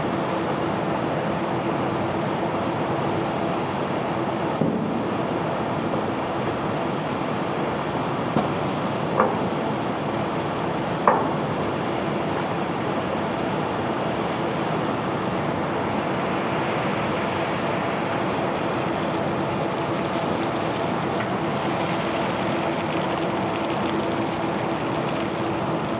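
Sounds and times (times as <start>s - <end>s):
faint machine hum: 0.0s - 25.9s.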